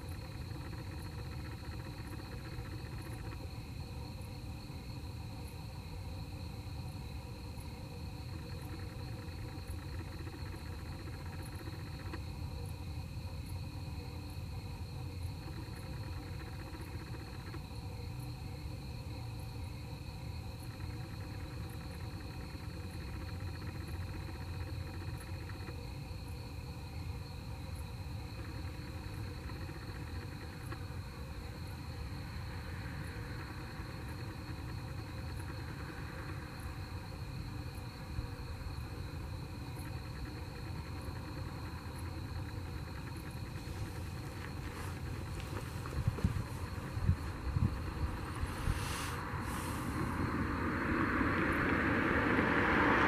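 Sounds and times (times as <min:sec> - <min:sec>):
crickets chirping: 0:00.0 - 0:53.0
fast insect trill: 0:00.0 - 0:53.0
low steady rumble: 0:00.0 - 0:53.0.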